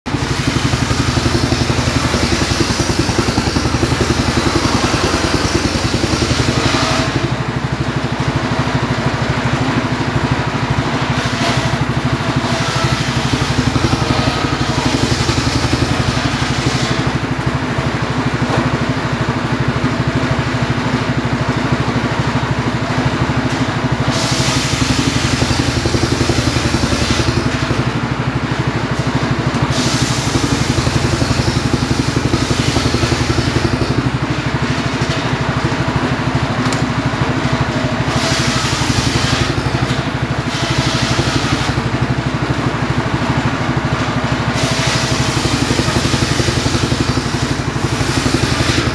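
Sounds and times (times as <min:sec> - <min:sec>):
saw engine running: 0:00.0 - 0:48.9
saw blade cutting log: 0:00.1 - 0:08.8, 0:10.6 - 0:17.9, 0:23.4 - 0:48.9.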